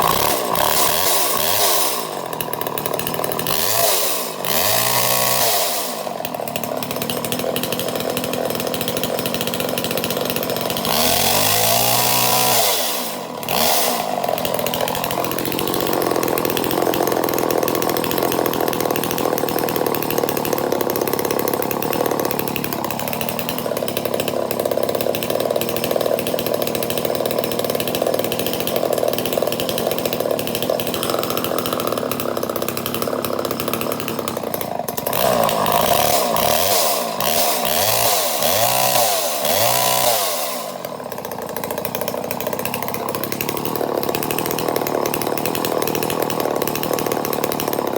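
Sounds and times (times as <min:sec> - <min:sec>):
chainsaw engine revving: 0:00.0 - 0:47.9.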